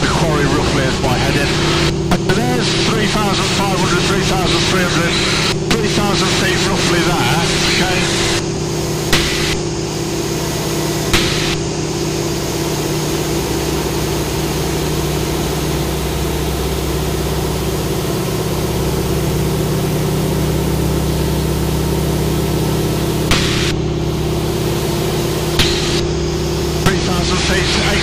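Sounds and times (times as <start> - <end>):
radial aircraft engine droning: 0.0 - 28.0.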